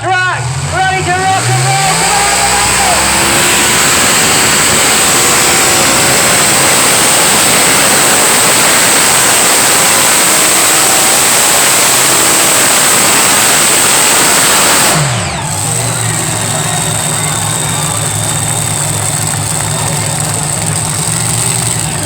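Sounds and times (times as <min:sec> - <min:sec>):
tractor engine running flat out: 0:00.0 - 0:22.0.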